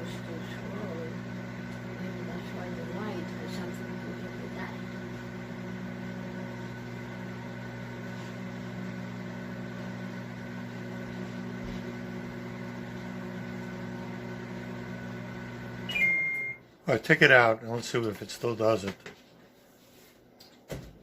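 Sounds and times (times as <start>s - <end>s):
microwave oven humming: 0.0s - 16.8s.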